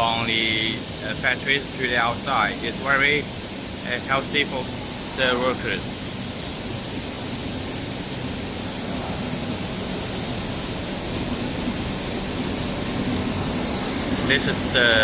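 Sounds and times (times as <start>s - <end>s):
high even hiss: 0.0s - 15.0s
low machine hum: 0.0s - 15.0s.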